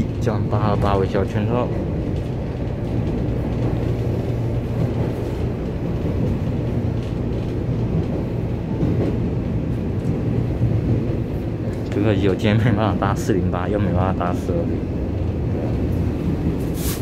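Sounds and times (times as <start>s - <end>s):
train cabin hum and rumble: 0.0s - 17.0s.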